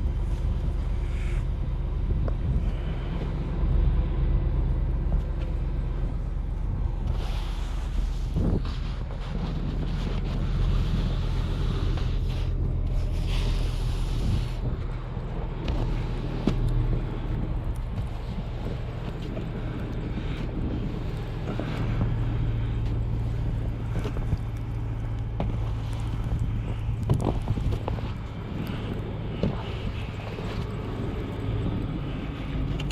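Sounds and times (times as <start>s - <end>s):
vehicle engine running: 0.0s - 32.9s.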